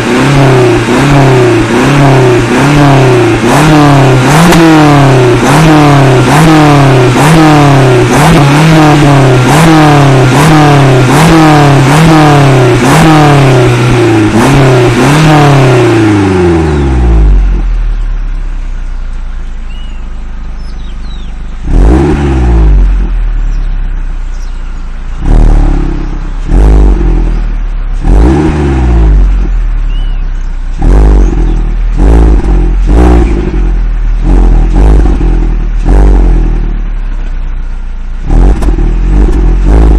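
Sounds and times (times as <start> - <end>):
car engine idling: 0.0 - 39.9
car engine revving: 0.0 - 39.9.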